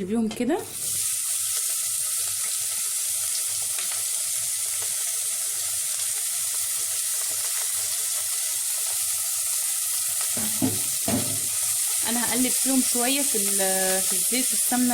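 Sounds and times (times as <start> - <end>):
vegetables sizzling in pot: 0.4 - 14.9.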